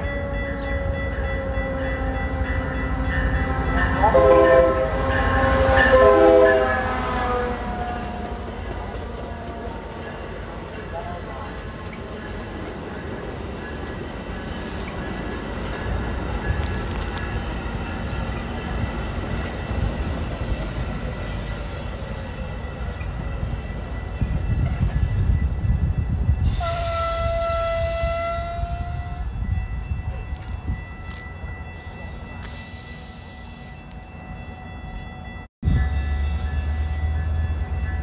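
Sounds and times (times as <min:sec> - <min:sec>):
train rumbling past: 0:00.0 - 0:38.0.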